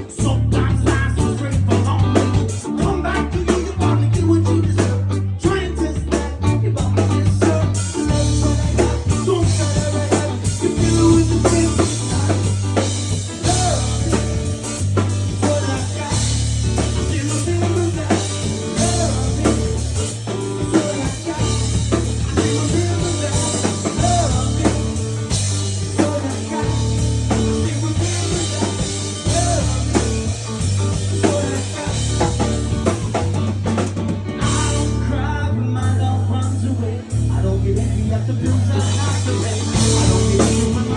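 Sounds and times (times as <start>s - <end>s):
person singing: 0.0s - 33.3s, 34.4s - 40.9s
bass line: 0.0s - 40.9s
drum kit: 0.0s - 40.9s.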